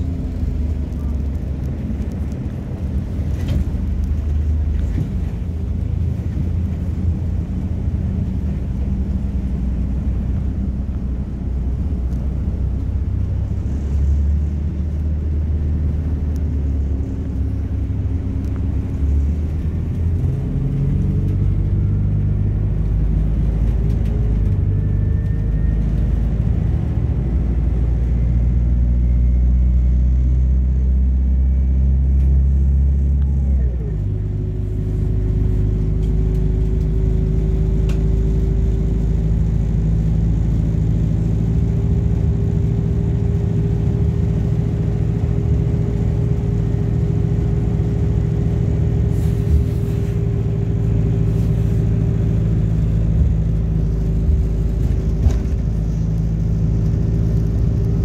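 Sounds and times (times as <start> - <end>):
bus engine humming: 0.0 - 58.0.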